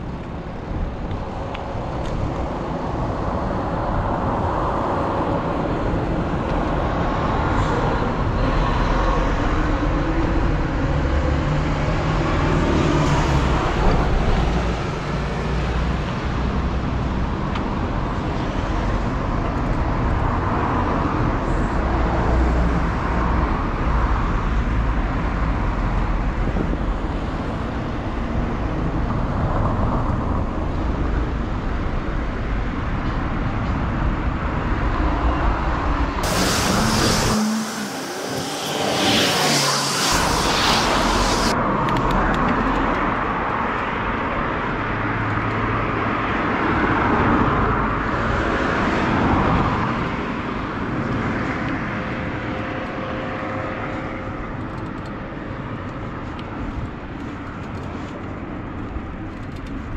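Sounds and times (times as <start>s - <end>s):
cars passing: 0.0s - 59.0s
wind rumbling on microphone: 0.0s - 59.9s.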